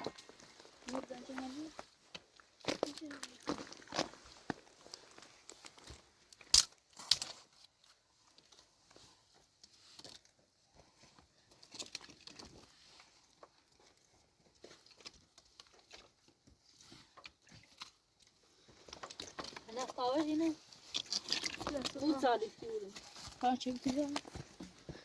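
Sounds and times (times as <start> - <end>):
rustling and crackling handling: 0.0 - 25.0.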